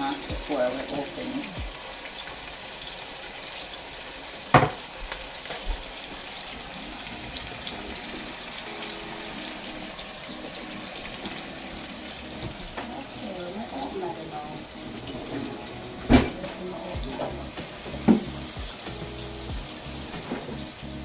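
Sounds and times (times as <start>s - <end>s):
kitchen tap running: 0.0s - 21.0s.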